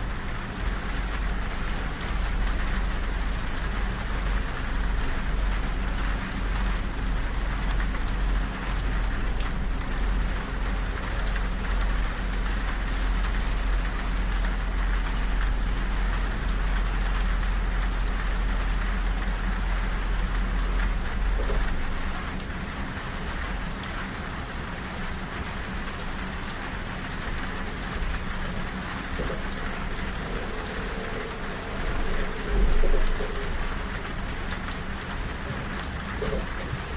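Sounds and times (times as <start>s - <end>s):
deep rumble of moving train: 0.0s - 36.9s
rain pattering on a window: 0.0s - 36.9s.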